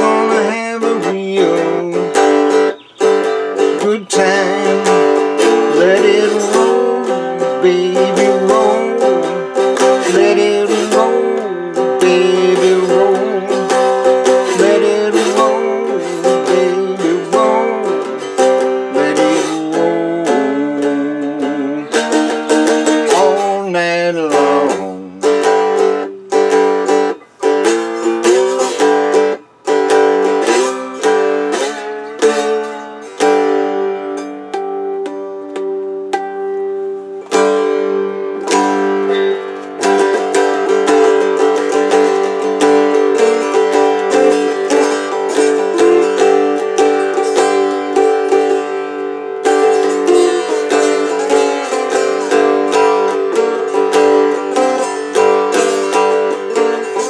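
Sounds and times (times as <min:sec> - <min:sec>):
guitar strummed chords: 0:00.0 - 0:57.0
slide guitar plucked notes: 0:00.0 - 0:57.0.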